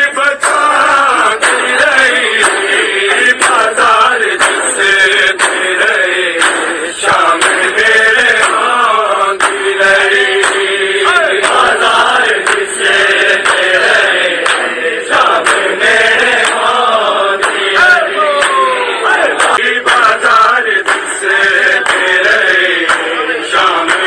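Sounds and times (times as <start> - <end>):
men chanting a lament: 0.0 - 24.0
sharp beats keeping time: 0.1 - 24.0.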